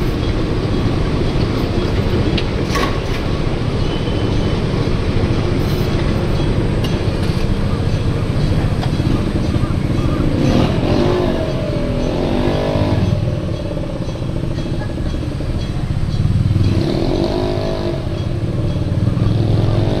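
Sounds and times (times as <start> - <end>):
low traffic rumble: 0.0 - 20.0
vehicles passing: 0.0 - 20.0.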